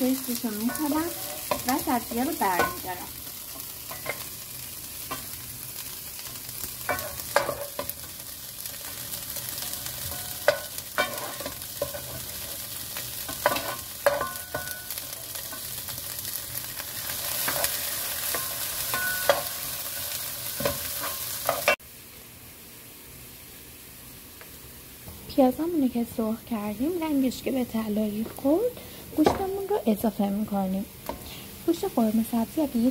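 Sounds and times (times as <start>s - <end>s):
onions sizzling in oil: 0.0s - 32.9s.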